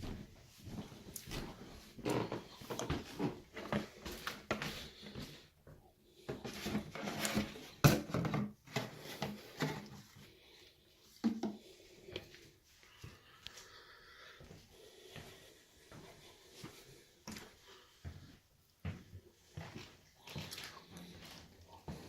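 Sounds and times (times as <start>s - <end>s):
footsteps in a house: 0.0s - 22.0s.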